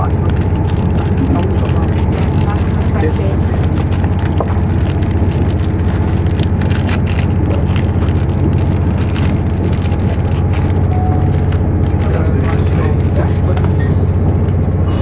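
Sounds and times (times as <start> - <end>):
train engine and wheels hum: 0.0 - 15.0.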